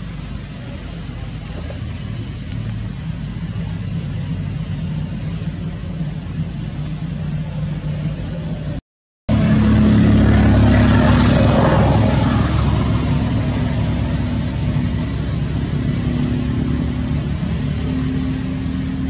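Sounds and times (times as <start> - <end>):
motor engine droning: 0.0 - 19.0.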